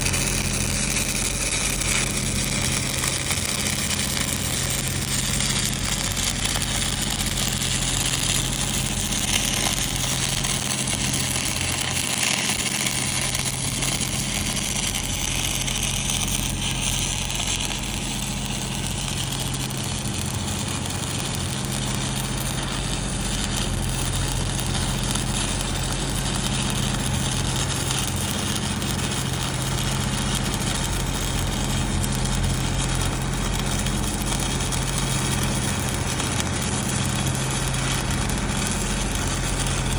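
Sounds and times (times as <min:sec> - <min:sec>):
low machine hum: 0:00.0 - 0:39.9
welding arc crackling: 0:00.0 - 0:39.9.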